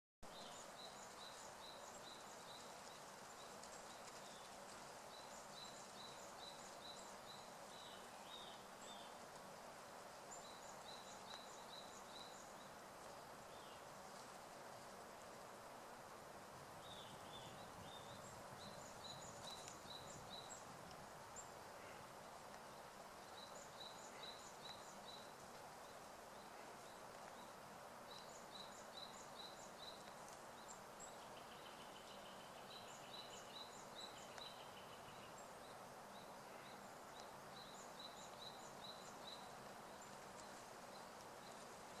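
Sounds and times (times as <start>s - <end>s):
songbird calls: 0.2s - 9.4s, 10.2s - 14.3s, 16.8s - 42.0s
steady low hiss: 0.2s - 42.0s.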